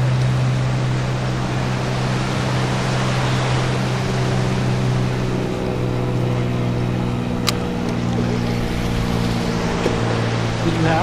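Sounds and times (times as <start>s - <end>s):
motorboat engine hum: 0.0s - 11.0s
water noise: 0.0s - 11.0s
wind: 0.0s - 11.0s.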